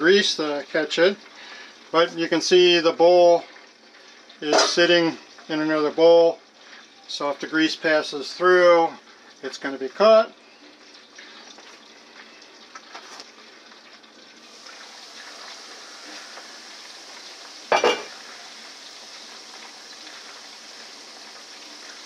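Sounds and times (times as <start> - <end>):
fries sizzling in hot oil: 0.0 - 22.0.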